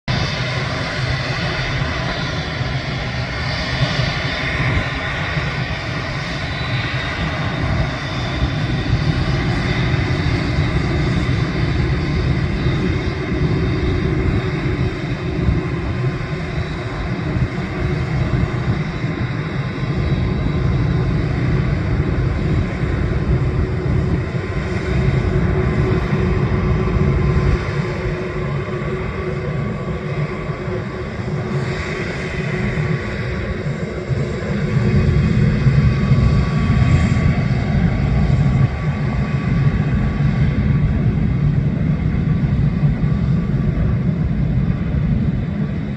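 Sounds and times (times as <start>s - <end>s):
jet engines running: 0.1s - 45.9s.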